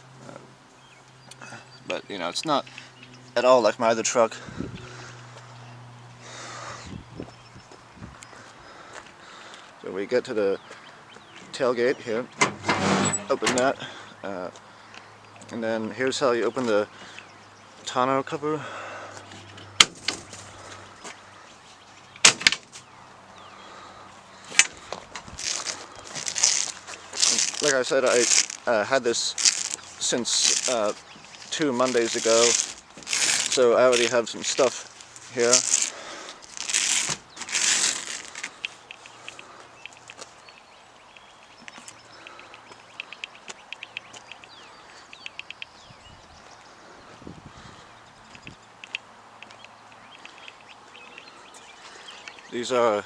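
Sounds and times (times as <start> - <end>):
birds chipping: 0.0 - 53.0.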